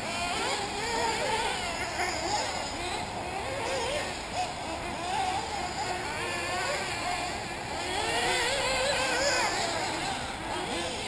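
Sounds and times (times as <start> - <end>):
rc car engines whining: 0.0 - 11.0.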